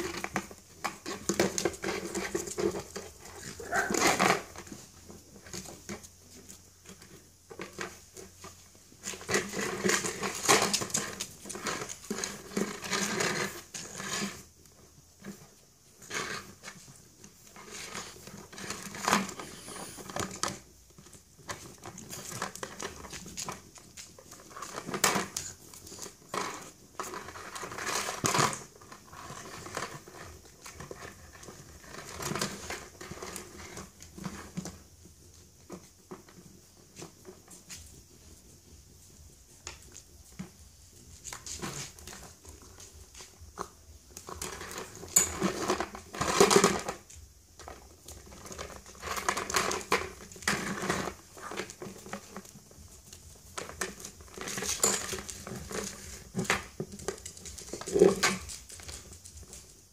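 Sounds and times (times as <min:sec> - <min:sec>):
plastic pot scraping on concrete: 0:00.0 - 0:14.6, 0:15.2 - 0:34.9, 0:41.2 - 0:59.1
puppies chewing plastic pot: 0:00.0 - 0:59.6.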